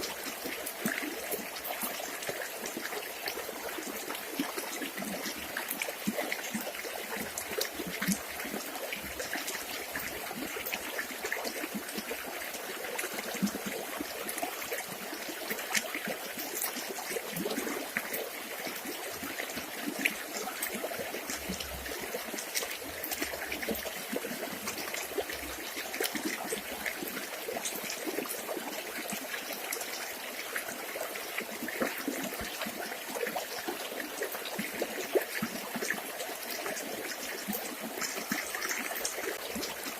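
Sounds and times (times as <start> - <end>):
river water flowing: 0.0 - 39.9
small water splashes: 0.0 - 39.9.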